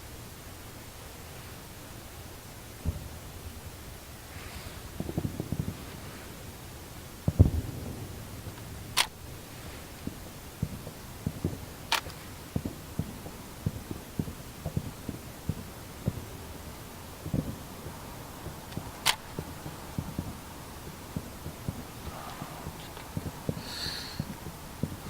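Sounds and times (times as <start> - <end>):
fireworks booming: 2.8 - 25.0.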